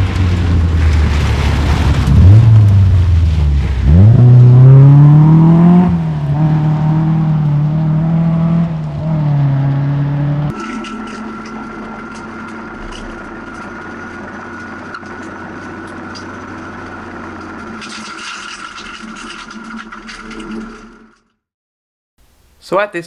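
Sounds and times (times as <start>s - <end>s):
rally car engine revving: 0.0s - 19.2s.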